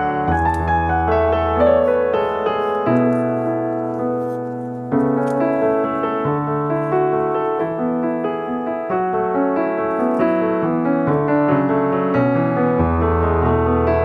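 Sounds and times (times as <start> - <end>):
background piano music: 0.0 - 14.0.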